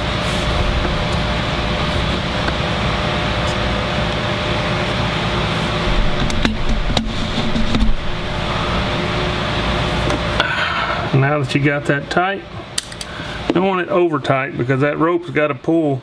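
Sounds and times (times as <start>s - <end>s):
faint hum: 0.0s - 16.0s
fan-like background noise: 0.0s - 16.0s.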